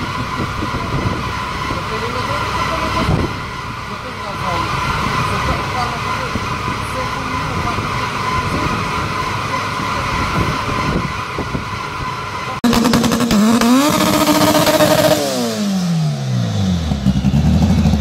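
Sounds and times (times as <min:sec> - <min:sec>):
diesel car engine revving: 0:00.0 - 0:18.0.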